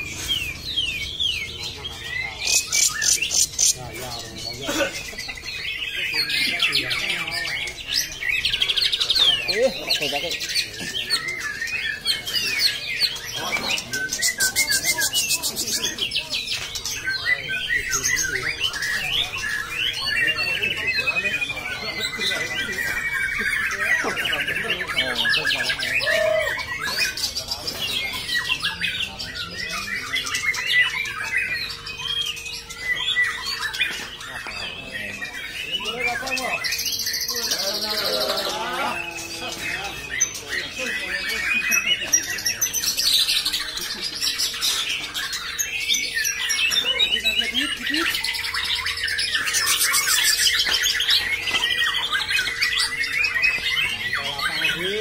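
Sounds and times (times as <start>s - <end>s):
bird singing trills and whistles: 0.0s - 55.0s.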